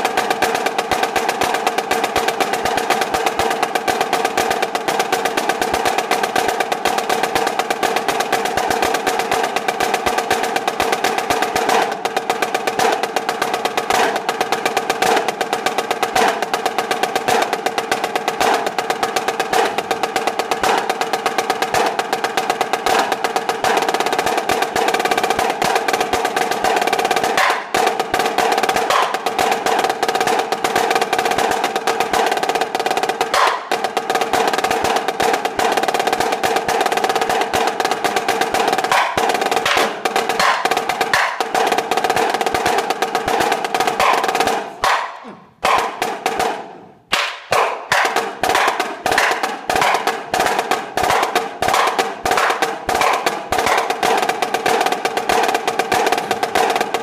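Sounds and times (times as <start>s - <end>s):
snare drum rolls: 0.0s - 57.0s.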